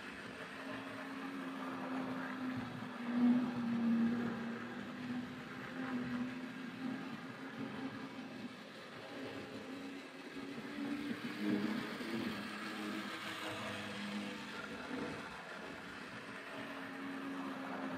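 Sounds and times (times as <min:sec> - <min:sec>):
model train motor hum: 0:00.0 - 0:17.9.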